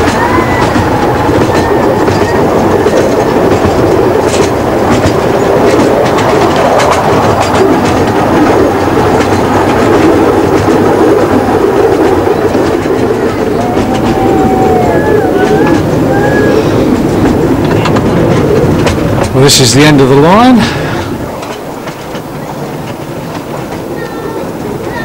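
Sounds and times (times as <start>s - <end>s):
train wheels rumbling on rail: 0.0s - 25.0s
wheels clicking over rail joints: 0.0s - 25.0s.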